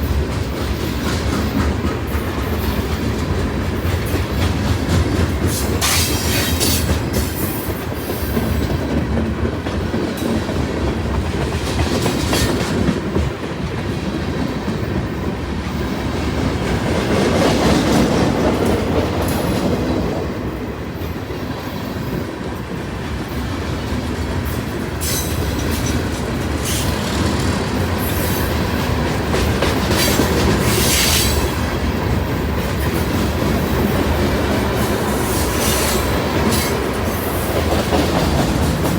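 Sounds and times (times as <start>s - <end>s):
train rumble: 0.0s - 38.9s
train wheels clacking: 0.0s - 38.9s.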